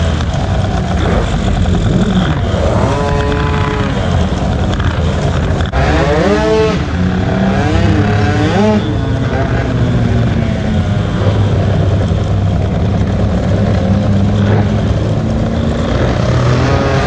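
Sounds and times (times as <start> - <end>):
engine revving: 0.0 - 17.0
motorcycle engines in traffic: 0.0 - 17.0.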